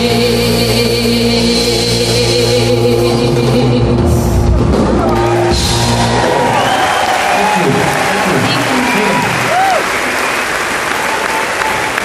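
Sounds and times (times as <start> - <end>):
live band holding a chord: 0.0 - 12.0.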